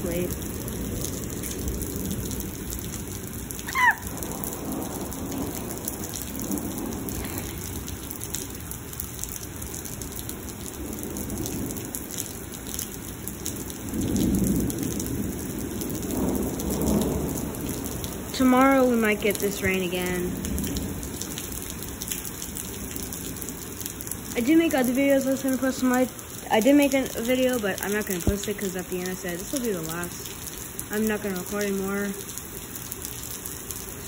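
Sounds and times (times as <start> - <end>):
thunder rumbling: 0.0 - 32.2
heavy rain on pavement: 0.0 - 34.0.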